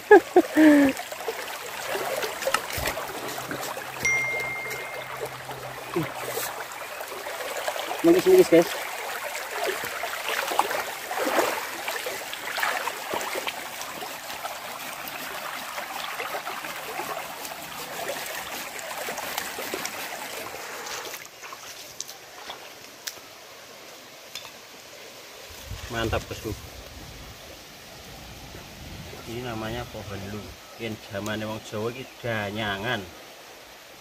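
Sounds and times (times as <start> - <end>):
stream water running: 0.0 - 34.0.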